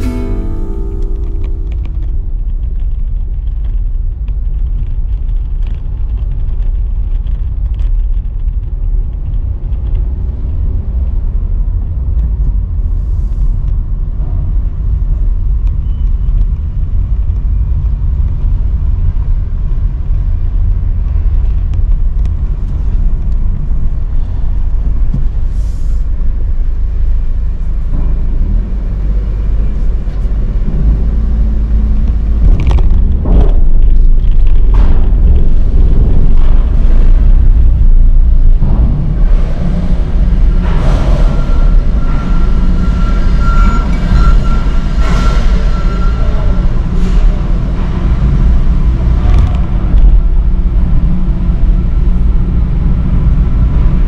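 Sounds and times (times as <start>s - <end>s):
car driving rumble from inside: 0.0s - 54.0s.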